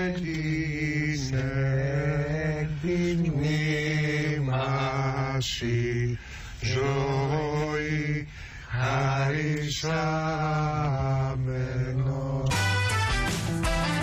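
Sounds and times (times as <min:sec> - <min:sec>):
man singing church chant: 0:00.0 - 0:12.5.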